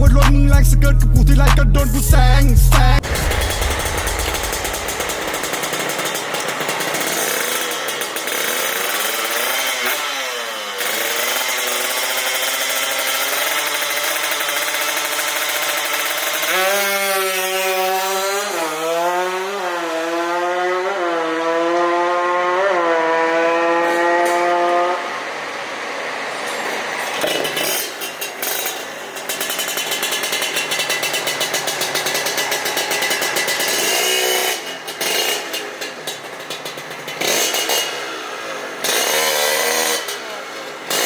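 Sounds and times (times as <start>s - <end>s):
two-stroke motorcycle engine revving: 2.4s - 41.0s.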